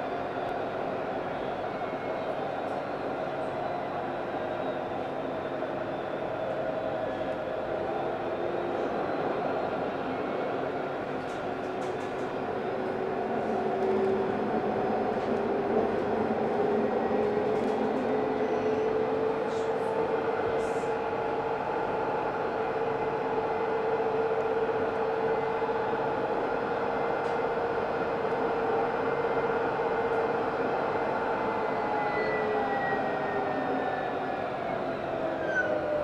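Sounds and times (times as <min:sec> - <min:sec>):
tram motor whine: 0:00.0 - 0:36.0
tram wheel rolling noise: 0:06.1 - 0:36.0.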